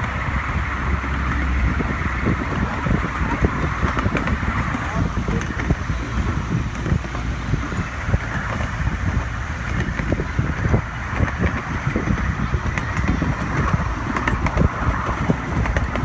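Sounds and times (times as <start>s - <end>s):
clacks and rattles: 0.0s - 16.0s
wheels rumbling on rail: 0.0s - 16.0s
wind on microphone: 0.0s - 16.0s.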